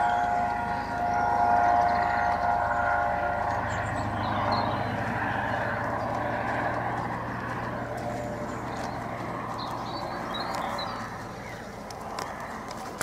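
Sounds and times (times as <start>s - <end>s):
helicopter rotor beating: 0.0s - 13.0s.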